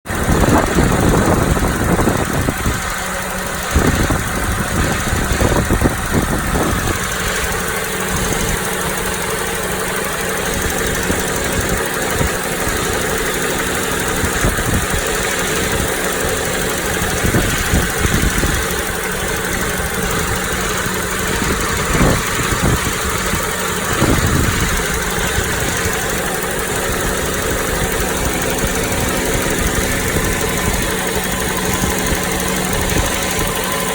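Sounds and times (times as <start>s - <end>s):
car engine idling with rattle: 0.0s - 33.9s.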